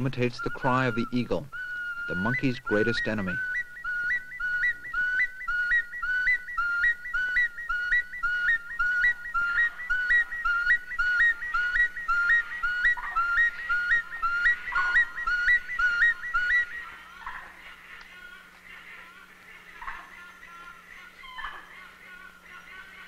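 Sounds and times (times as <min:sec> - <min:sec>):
hunting flute two-note calls: 0:00.0 - 0:23.0.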